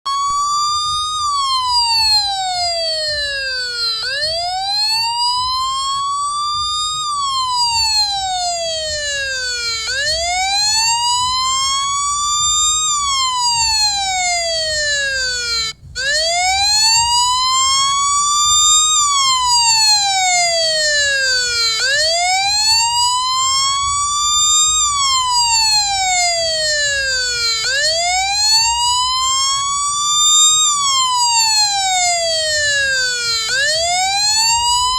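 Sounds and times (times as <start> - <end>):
emergency siren wailing: 0.1 - 34.9.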